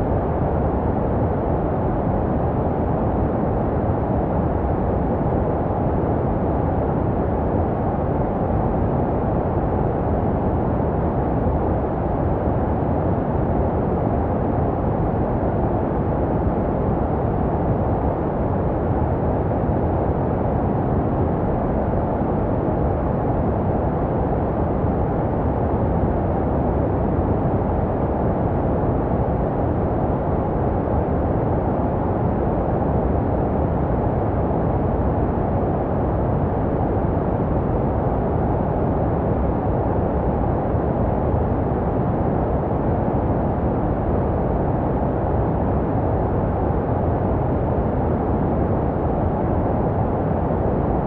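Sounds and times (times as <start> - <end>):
deep muffled white noise: 0.0 - 51.0.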